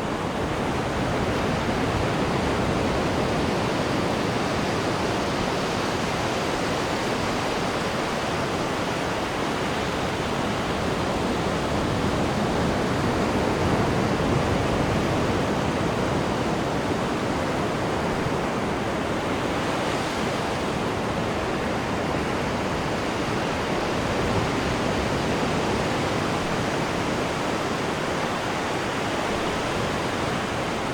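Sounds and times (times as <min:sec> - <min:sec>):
churning water rushing: 0:00.0 - 0:30.9.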